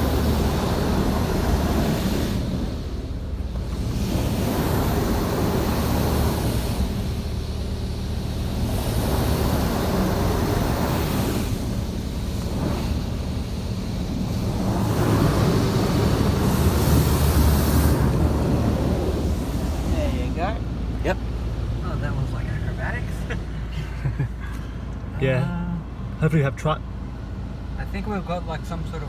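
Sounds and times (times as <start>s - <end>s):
steady low rumble: 0.0s - 29.0s
water jets blasting car: 0.0s - 29.0s.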